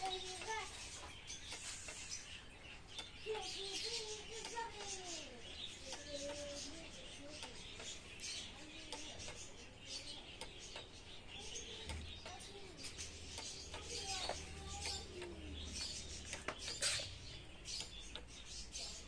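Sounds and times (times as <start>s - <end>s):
faint small birds chirping: 0.0s - 19.0s.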